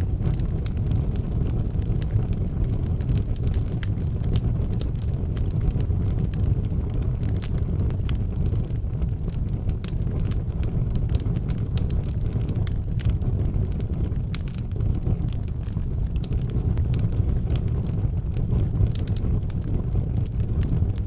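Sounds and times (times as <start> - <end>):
fire crackling and popping: 0.0 - 21.0
fire roaring: 0.0 - 21.0.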